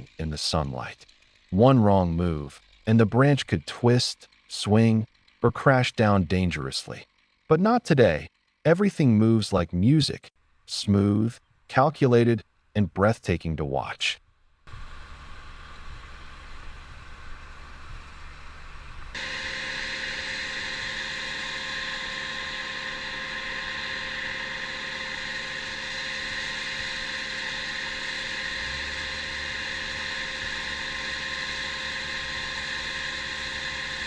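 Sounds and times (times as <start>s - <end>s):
engine running steadily: 0.0s - 13.4s, 14.5s - 34.0s.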